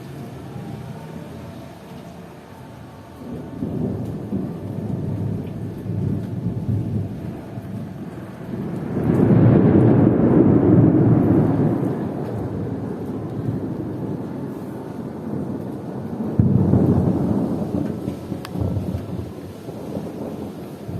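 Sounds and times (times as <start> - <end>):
heavy rain: 0.0 - 20.9
rolling thunder: 2.4 - 20.9.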